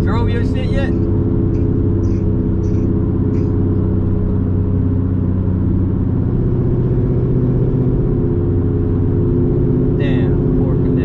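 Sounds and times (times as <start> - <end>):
car engine running steadily: 0.0 - 11.0
road noise: 0.0 - 11.0.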